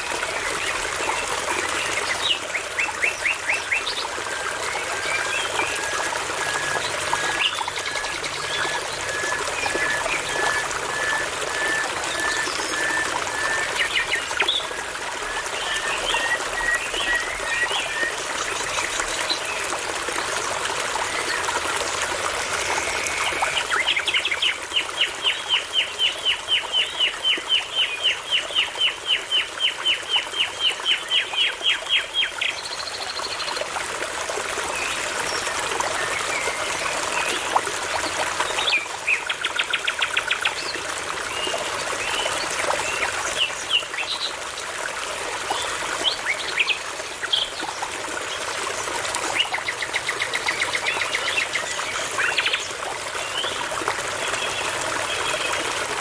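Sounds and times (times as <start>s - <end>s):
babbling brook: 0.0s - 56.0s.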